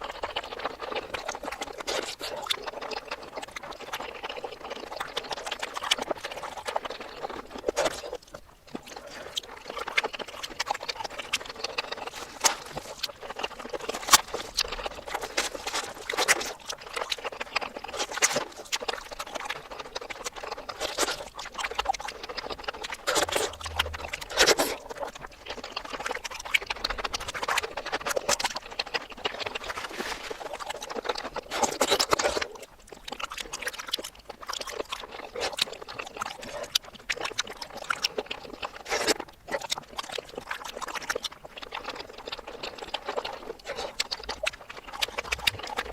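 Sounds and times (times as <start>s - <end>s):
reversed chewing and mouth smacking: 0.0s - 45.9s.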